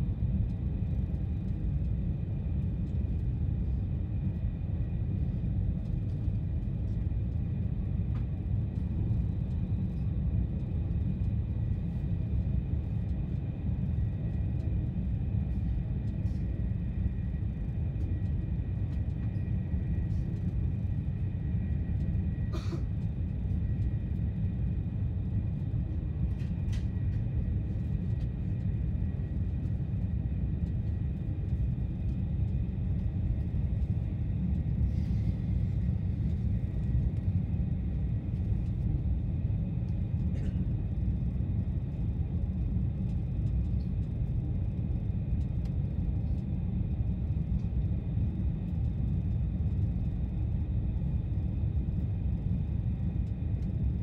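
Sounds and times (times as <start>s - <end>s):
train interior rumble: 0.0s - 46.4s
faint steady whine: 0.0s - 54.0s.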